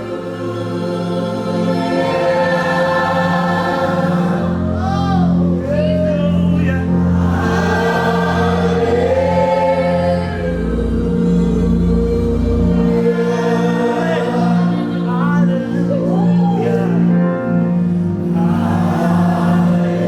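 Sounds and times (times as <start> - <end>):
choir singing sustained notes: 0.0 - 20.0
held instrumental chords: 0.0 - 20.0.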